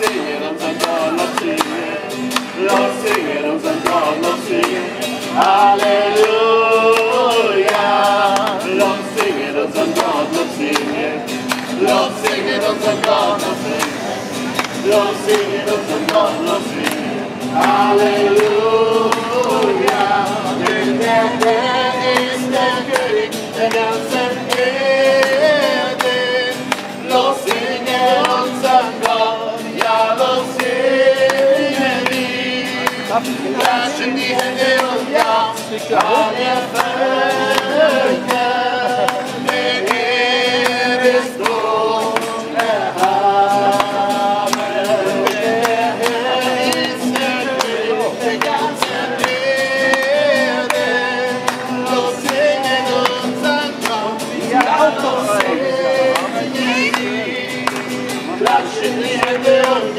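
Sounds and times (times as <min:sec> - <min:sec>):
group singing worship song: 0:00.0 - 0:59.9.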